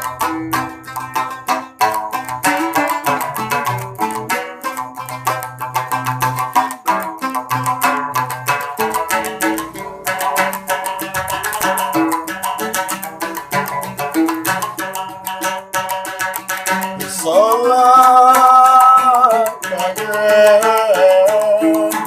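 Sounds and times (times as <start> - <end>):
plucked lute notes: 0.0 - 22.0.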